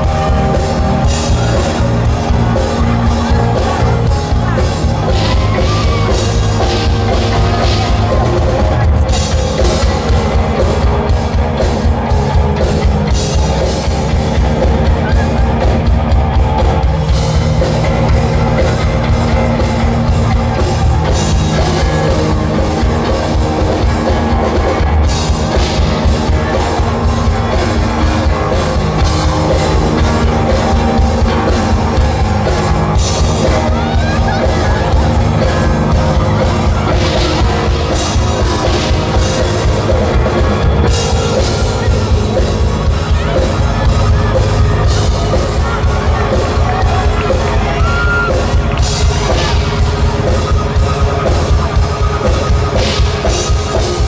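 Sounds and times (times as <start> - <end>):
bass guitar: 0.0 - 54.0
drum kit: 0.0 - 54.0
electric guitar: 0.0 - 54.0
keyboard: 0.0 - 54.0.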